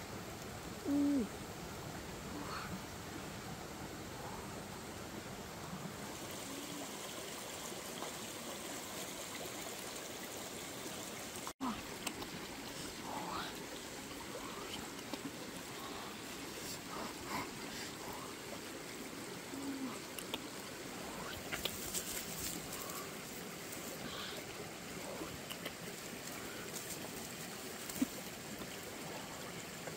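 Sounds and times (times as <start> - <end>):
steady outdoor hiss: 0.0 - 29.9.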